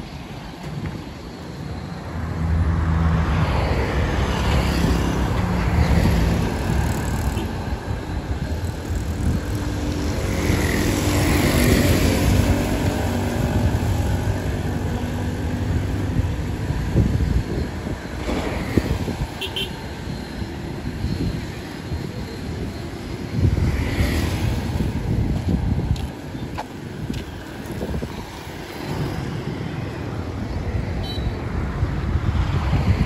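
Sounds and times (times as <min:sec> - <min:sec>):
vehicles passing on road: 0:00.0 - 0:33.0.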